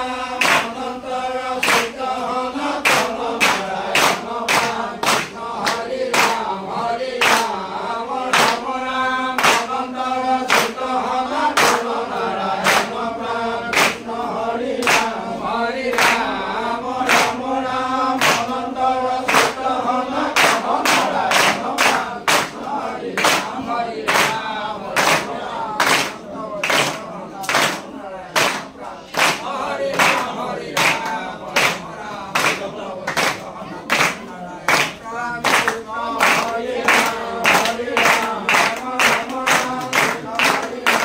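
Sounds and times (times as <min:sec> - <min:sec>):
group singing a hymn: 0:00.0 - 0:41.0
hand clapping: 0:00.3 - 0:41.0.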